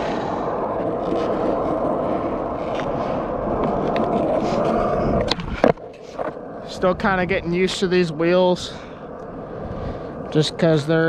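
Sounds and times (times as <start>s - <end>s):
skateboard wheels rolling: 0.0s - 11.0s.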